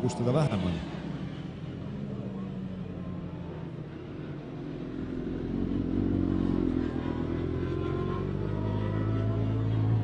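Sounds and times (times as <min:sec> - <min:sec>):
distant motorcycle engines: 0:00.0 - 0:10.0.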